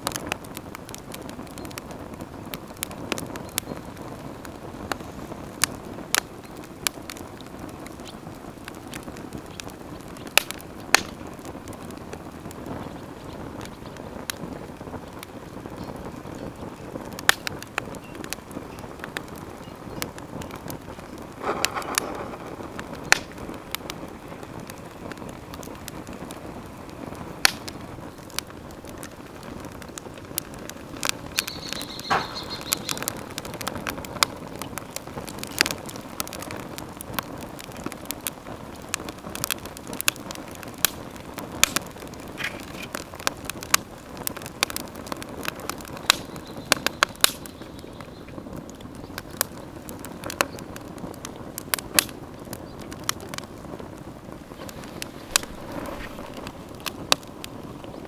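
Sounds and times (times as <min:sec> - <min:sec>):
campfire crackling and popping: 0:00.0 - 0:58.0
hiss of flames: 0:00.0 - 0:58.0.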